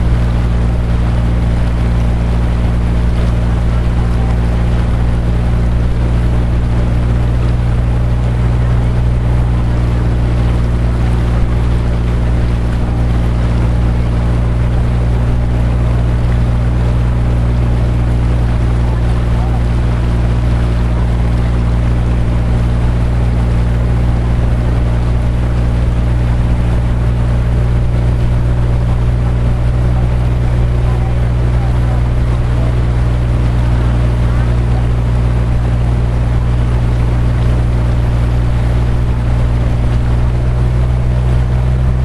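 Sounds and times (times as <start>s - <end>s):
motorboat engine droning: 0.0s - 42.0s
water splashing along hull: 0.0s - 42.0s.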